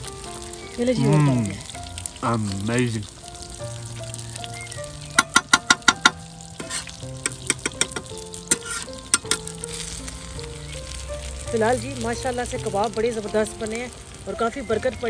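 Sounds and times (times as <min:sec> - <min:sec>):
food sizzling in oil: 0:00.0 - 0:15.0
soft background music: 0:00.0 - 0:15.0.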